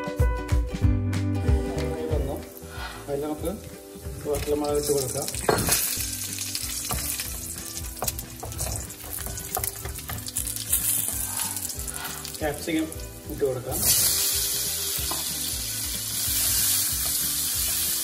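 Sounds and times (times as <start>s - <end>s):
nuts sizzling in oil: 2.3s - 18.0s.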